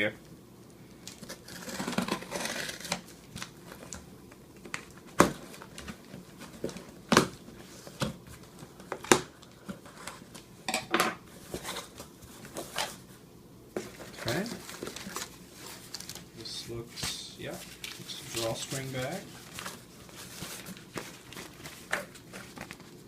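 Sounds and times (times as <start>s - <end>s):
cardboard rustling and crinkling: 1.2s - 10.5s, 11.3s - 23.0s.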